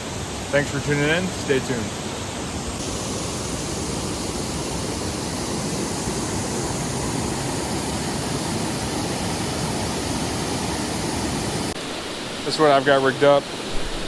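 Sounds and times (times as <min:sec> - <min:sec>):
waterfall rushing: 0:00.7 - 0:14.0.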